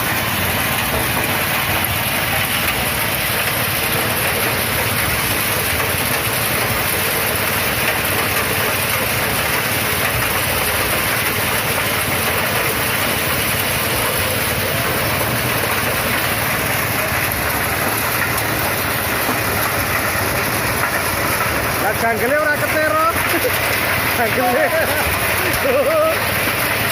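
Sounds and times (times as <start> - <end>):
corn sheller engine running: 0.0 - 26.9.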